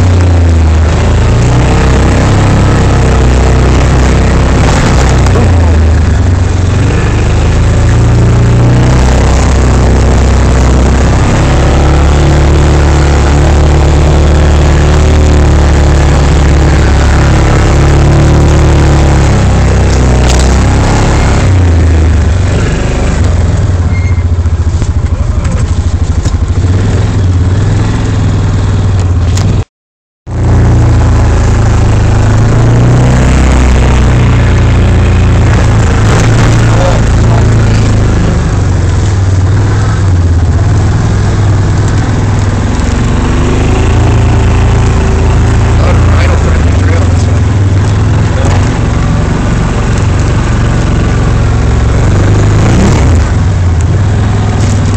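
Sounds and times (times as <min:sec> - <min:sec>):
vehicle engine running under load: 0:00.0 - 0:29.7, 0:30.3 - 0:54.9.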